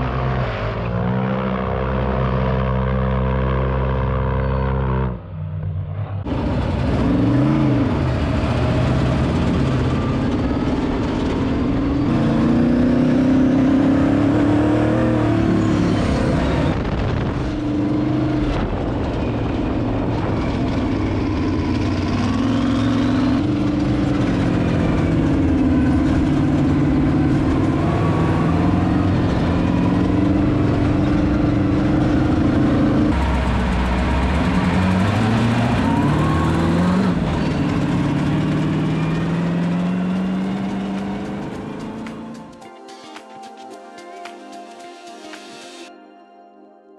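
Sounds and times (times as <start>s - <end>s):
vehicle engine revving: 0.0s - 42.5s.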